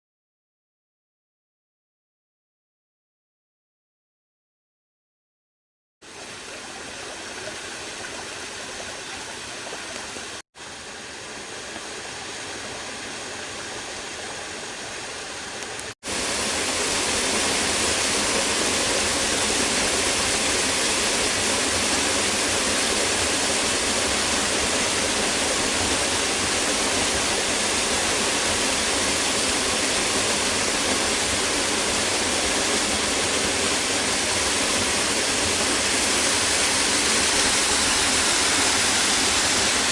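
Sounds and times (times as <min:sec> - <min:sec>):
waterfall roaring: 0:06.1 - 0:39.9.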